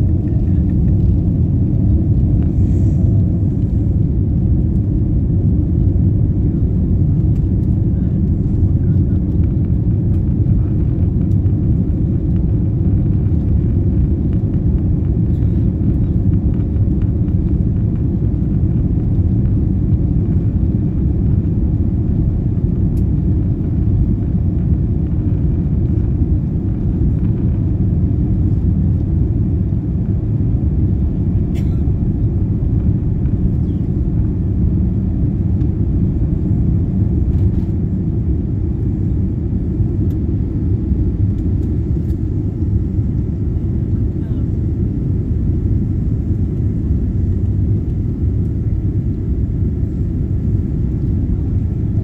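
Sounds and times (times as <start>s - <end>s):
aircraft engines at low thrust: 0.0s - 52.0s.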